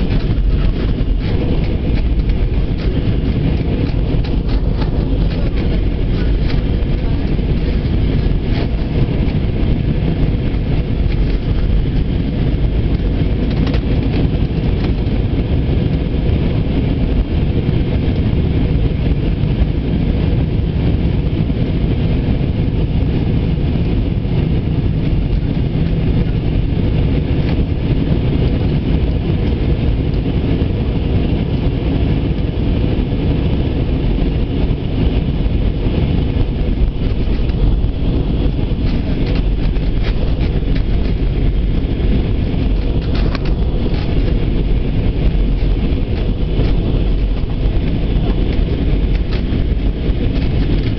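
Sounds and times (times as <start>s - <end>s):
aircraft engines in cabin: 0.0s - 50.9s
rushing air: 0.0s - 50.9s.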